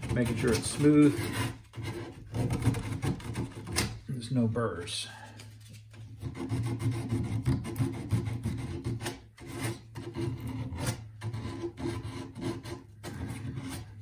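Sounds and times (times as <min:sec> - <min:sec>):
sandpaper scraping plastic pipe: 0:00.0 - 0:04.0, 0:05.6 - 0:14.0.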